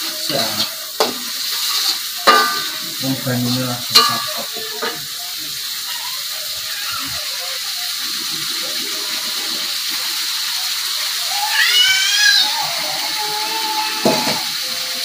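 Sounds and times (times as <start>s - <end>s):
paste sizzling in a wok: 0.0s - 15.0s.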